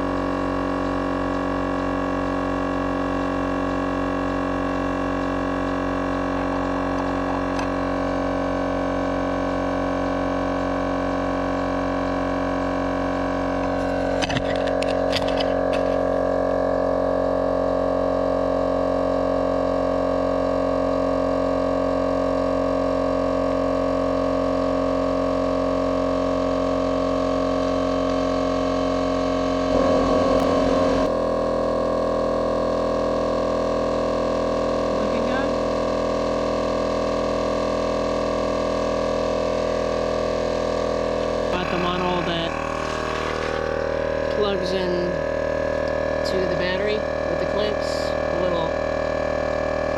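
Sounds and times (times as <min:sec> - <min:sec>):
tire inflator compressor droning: 0:00.0 - 0:49.9.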